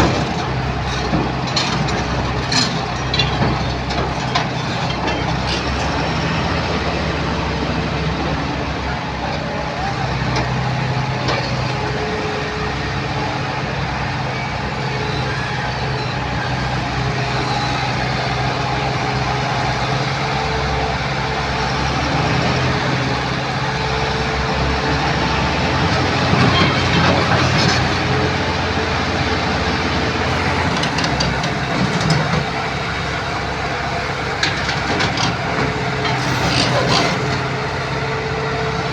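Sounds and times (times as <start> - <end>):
excavator diesel engine: 0.0 - 38.9
hydraulic whine: 0.0 - 38.9.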